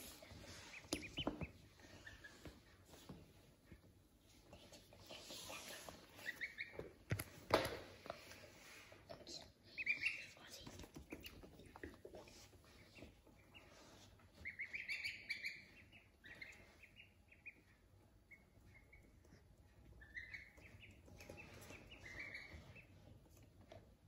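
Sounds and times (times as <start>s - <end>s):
ducklings peeping: 0.0s - 3.9s, 4.8s - 7.9s, 9.2s - 24.0s.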